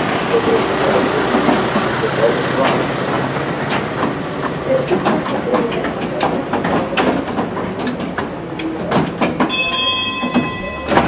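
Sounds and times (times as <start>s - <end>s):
carriages rattling and knocking: 0.0s - 11.0s
road train rolling over cobblestones: 0.0s - 11.0s.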